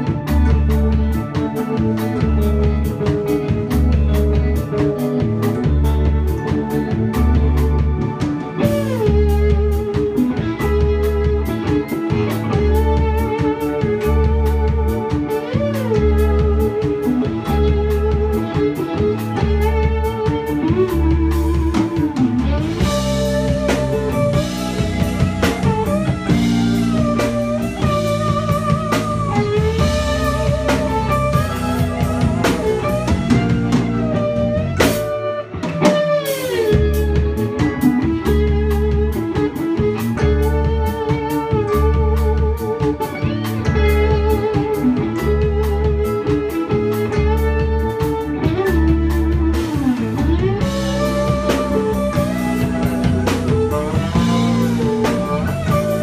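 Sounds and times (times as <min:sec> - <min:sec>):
electric guitar lead line: 0:00.0 - 0:56.0
live blues-rock band: 0:00.0 - 0:56.0.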